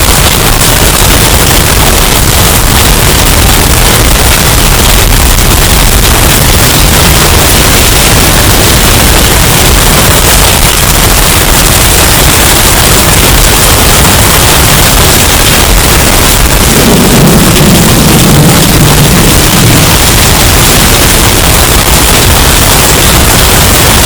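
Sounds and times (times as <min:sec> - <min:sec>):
distorted storm wind: 0:00.0 - 0:24.0
deep low rumble: 0:01.1 - 0:23.6.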